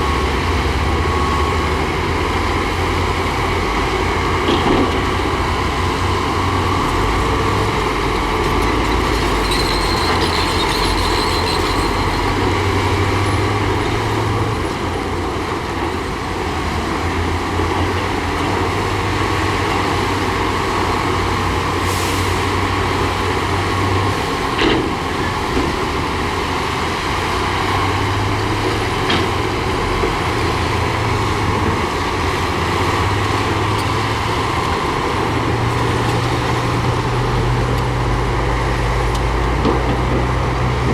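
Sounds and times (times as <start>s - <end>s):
heavy diesel machinery droning: 0.0s - 40.9s.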